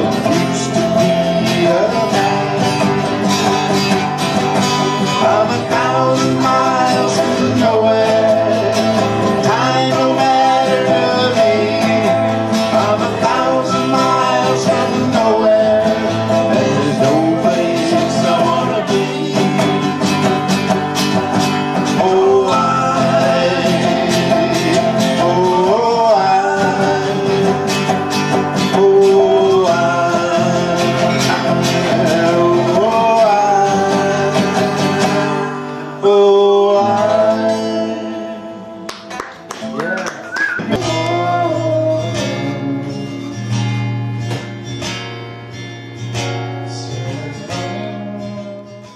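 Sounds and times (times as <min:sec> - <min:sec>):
man singing: 0:00.0 - 0:20.5, 0:21.2 - 0:38.9, 0:39.7 - 0:43.8, 0:46.5 - 0:48.9
acoustic guitars strummed: 0:00.0 - 0:48.9.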